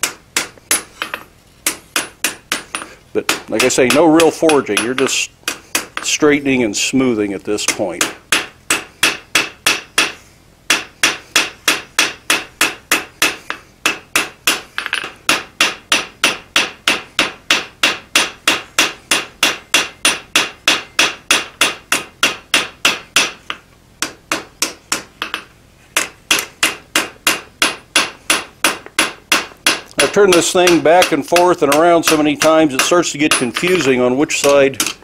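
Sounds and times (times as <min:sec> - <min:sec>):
hammer striking steel on anvil: 0:00.0 - 0:06.3, 0:07.6 - 0:35.0.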